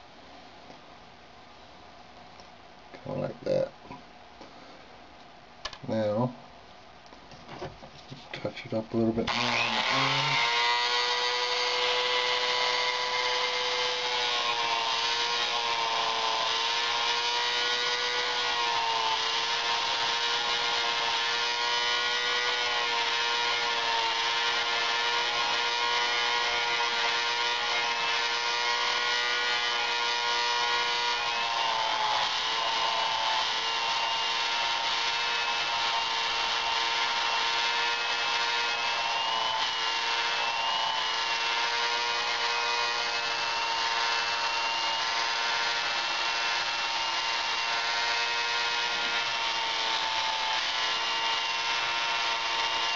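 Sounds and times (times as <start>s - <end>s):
rotary tool whining: 9.2s - 52.9s.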